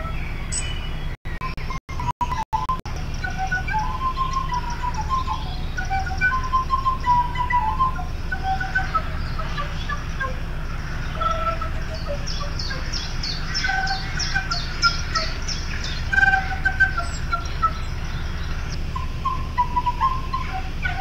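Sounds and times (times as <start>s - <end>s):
bird-like chirping: 0.0s - 21.0s
low hum: 0.0s - 21.0s
small wind instrument piping: 0.0s - 21.0s.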